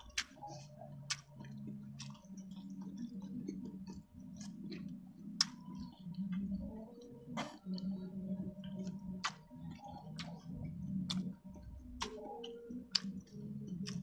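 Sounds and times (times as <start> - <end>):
close-up chewing: 0.0 - 14.0
low steady hum: 0.0 - 14.0.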